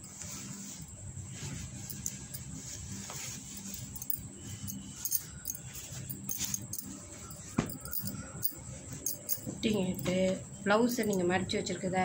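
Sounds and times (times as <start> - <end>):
cloth rustling: 0.0 - 11.2
glass bangles clinking: 0.0 - 11.5.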